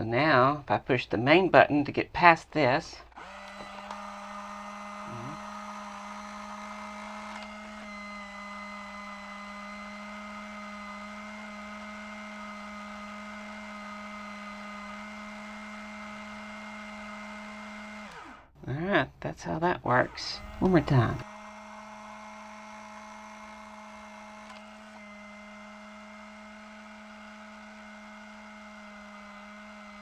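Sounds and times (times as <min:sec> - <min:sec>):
small electric motor hum and whine: 0:03.1 - 0:18.5, 0:20.0 - 0:30.0.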